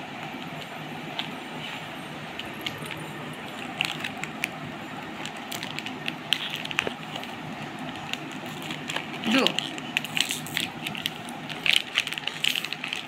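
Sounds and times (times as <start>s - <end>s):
steady background hiss: 0.0s - 13.0s
plastic wrapper crinkling: 2.4s - 13.0s.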